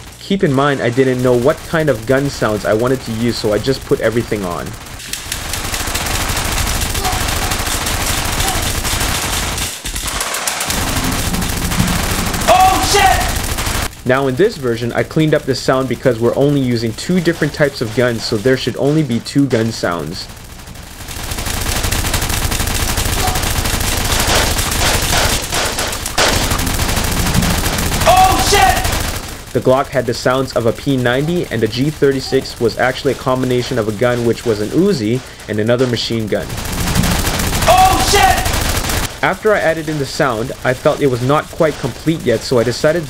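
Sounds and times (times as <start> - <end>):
dense gunfire barrage: 0.0 - 43.0.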